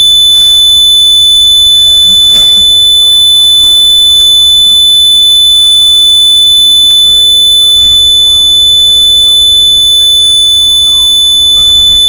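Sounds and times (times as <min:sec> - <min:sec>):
high-pitched electronic tone: 0:00.0 - 0:12.0.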